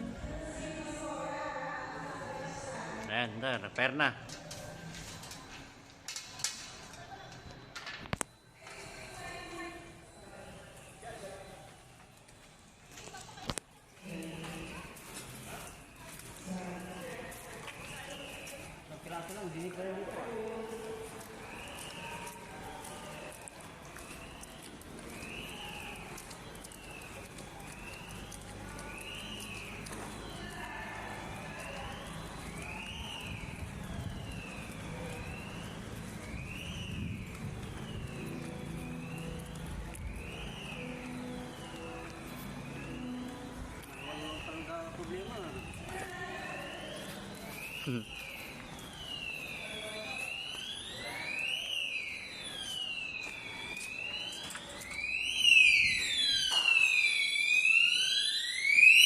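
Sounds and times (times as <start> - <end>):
fire alarm siren wailing: 0.0 - 6.7, 7.7 - 12.3, 14.0 - 59.0.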